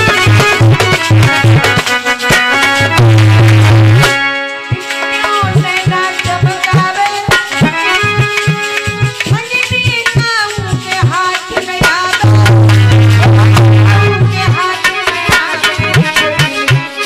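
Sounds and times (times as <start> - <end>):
dholak drum beat: 0.0 - 17.0
harmonium chords: 0.0 - 17.0.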